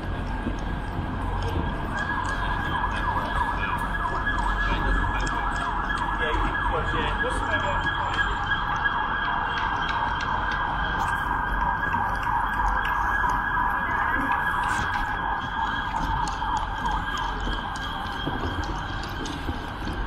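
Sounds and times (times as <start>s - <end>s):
emergency siren wailing: 0.0s - 20.0s
low traffic rumble: 0.0s - 20.0s.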